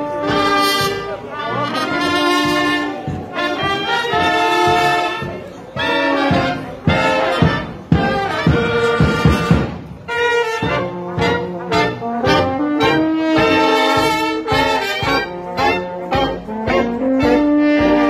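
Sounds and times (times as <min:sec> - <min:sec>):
brass band playing a march: 0:00.0 - 0:18.0
sharp drum beats: 0:00.0 - 0:18.0.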